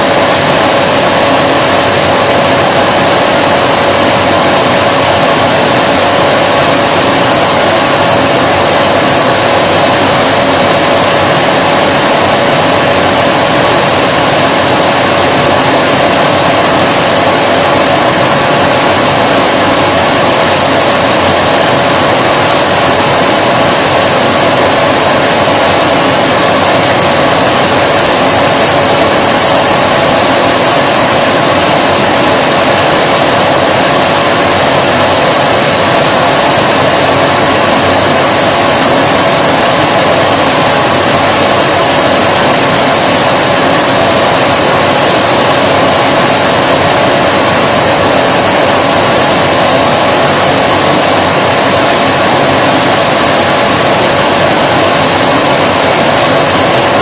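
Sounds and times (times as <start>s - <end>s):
vacuum cleaner motor running: 0.0s - 57.0s.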